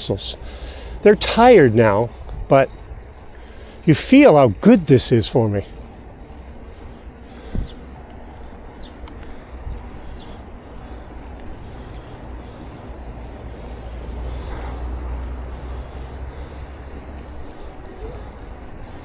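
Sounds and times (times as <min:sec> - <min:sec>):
bicycle tyres rolling: 0:00.0 - 0:19.0
wind rumble: 0:00.0 - 0:19.0.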